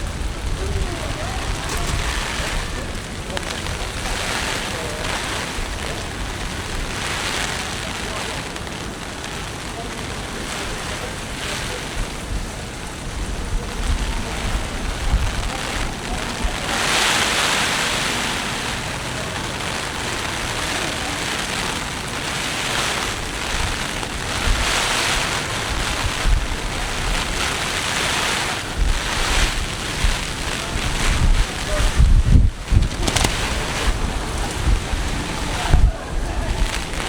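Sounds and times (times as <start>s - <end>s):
heavy rain hissing: 0.0s - 37.0s
wind buffeting microphone: 0.0s - 37.0s.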